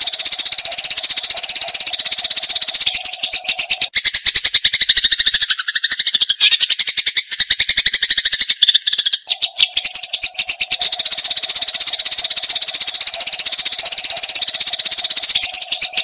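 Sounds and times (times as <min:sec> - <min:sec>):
sparrow chattering chirps: 0:00.0 - 0:16.0.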